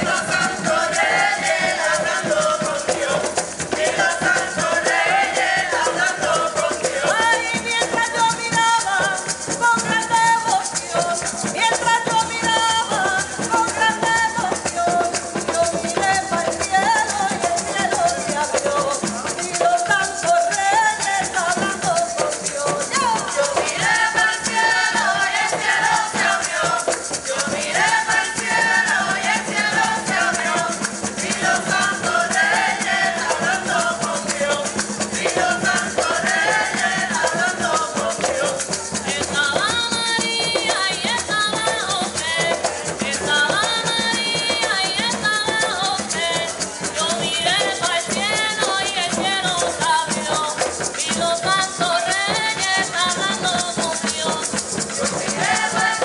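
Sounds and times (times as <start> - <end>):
rattle shaken steadily: 0.0 - 56.0
women singing: 0.0 - 56.0.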